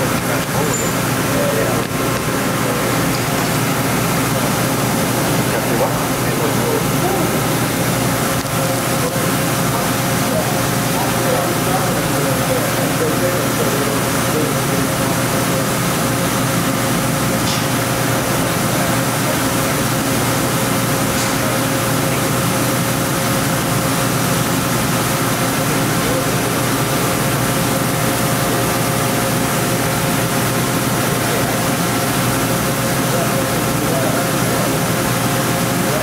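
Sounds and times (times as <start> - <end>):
machine mechanical hum: 0.0 - 36.0.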